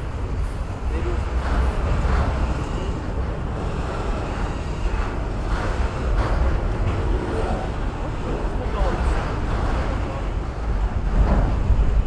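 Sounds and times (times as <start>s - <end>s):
train wheels rolling on rail: 0.0s - 12.0s
wind on microphone: 0.0s - 12.0s.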